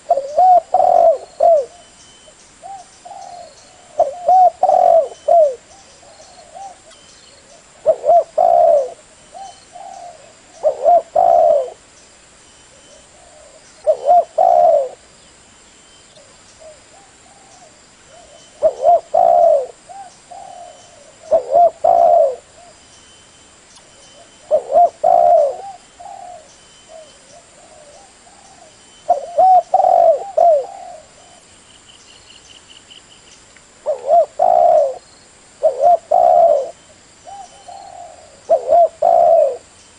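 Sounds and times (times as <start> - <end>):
dove cooing: 0.0 - 2.0, 2.6 - 11.8, 12.7 - 15.1, 16.2 - 22.8, 24.2 - 31.5, 33.8 - 35.0, 35.6 - 39.7.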